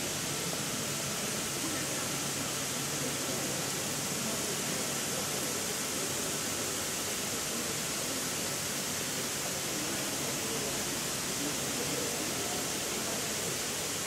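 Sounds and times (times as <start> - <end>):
hiss of falling water spray: 0.0 - 14.0.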